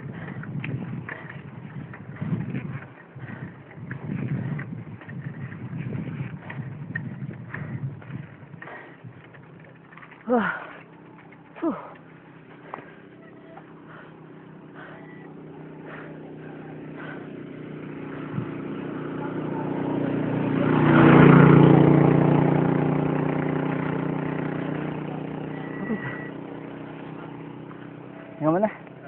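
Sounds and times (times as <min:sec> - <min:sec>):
vehicle engine passing by: 0:00.0 - 0:29.0.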